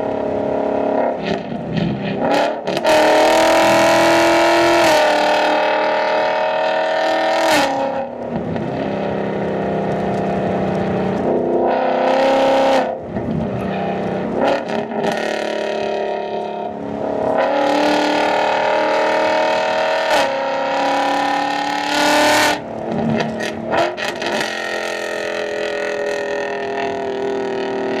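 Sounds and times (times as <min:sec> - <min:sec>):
car exhaust revving hard: 0:00.0 - 0:28.0.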